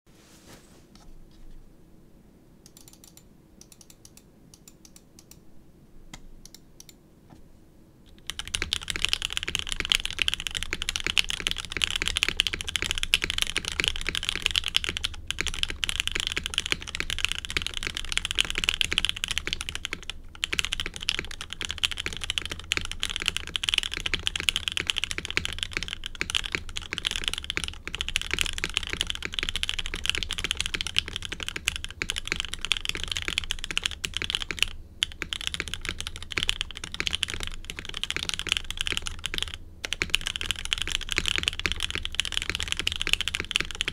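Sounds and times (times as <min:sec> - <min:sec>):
typing on mechanical keyboard: 0:08.1 - 0:43.9.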